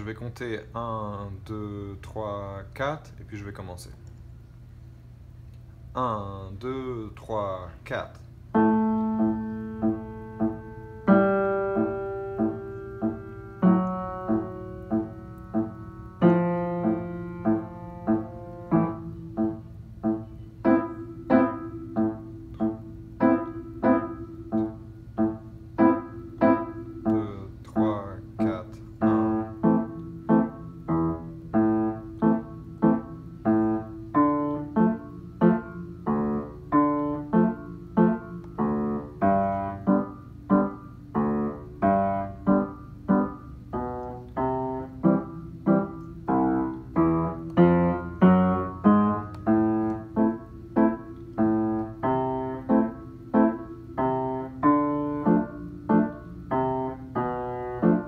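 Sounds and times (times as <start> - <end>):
piano chords and melody: 8.5 - 58.0.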